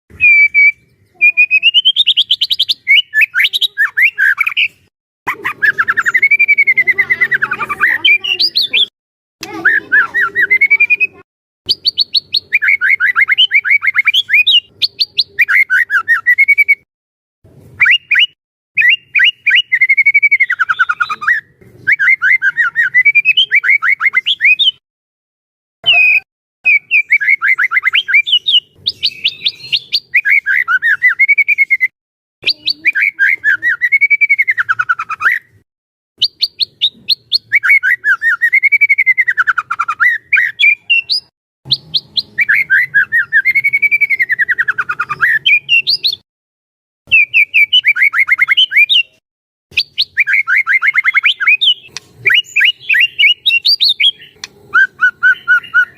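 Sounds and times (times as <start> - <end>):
bird chattering song: 0.1 - 16.8, 17.7 - 24.8, 25.8 - 35.6, 36.2 - 46.2, 47.1 - 55.9.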